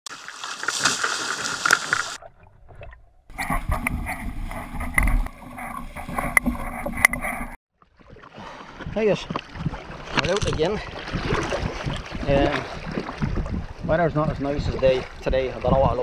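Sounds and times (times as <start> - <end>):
water splashing against kayak: 0.1 - 16.0.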